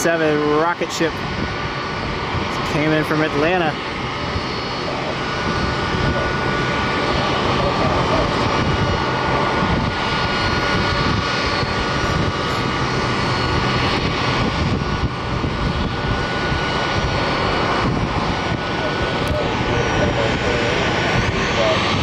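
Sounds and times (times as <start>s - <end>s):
high-pitched engine whine: 0.0s - 22.0s
jet engines running: 0.0s - 22.0s.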